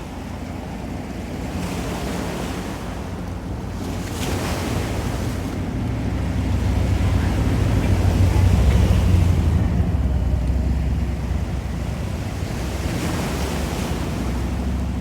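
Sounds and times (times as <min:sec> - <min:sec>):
ocean surf breaking on shore: 0:00.0 - 0:15.0.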